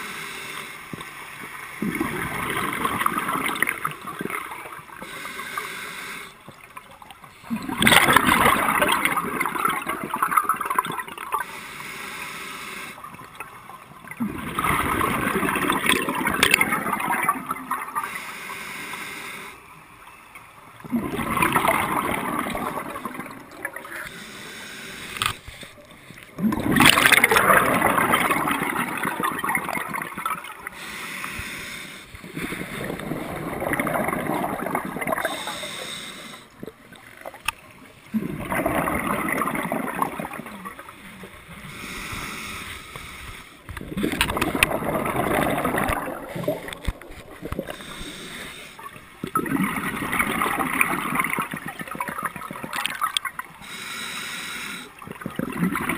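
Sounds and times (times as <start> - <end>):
quiet breaths: 0.0 - 1.8, 2.5 - 7.8, 8.6 - 16.2, 17.4 - 21.6, 22.2 - 26.4, 27.8 - 38.1, 39.8 - 44.7, 45.5 - 49.4, 50.8 - 55.4
underwater bubbles gurgling: 0.0 - 55.9.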